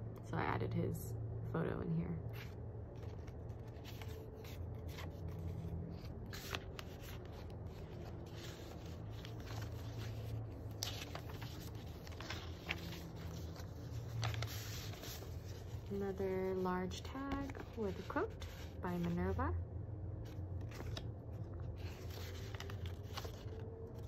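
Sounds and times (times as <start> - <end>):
low steady hum: 0.0 - 24.0
paper pages rustling: 2.3 - 19.4, 20.3 - 24.0.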